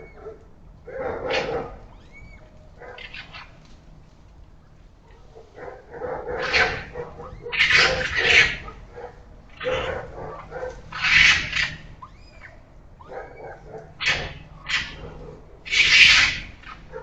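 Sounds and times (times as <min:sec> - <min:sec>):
animal squeals: 0:00.0 - 0:00.4, 0:01.0 - 0:04.0, 0:06.2 - 0:17.0
harsh screechy animal calls: 0:00.0 - 0:00.4, 0:01.0 - 0:04.0, 0:05.9 - 0:17.0.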